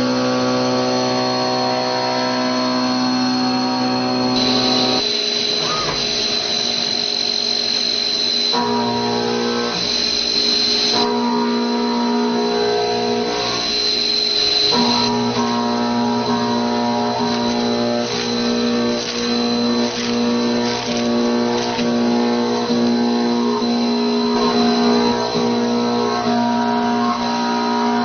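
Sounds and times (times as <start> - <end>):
high-pitched whine: 0.0 - 28.0.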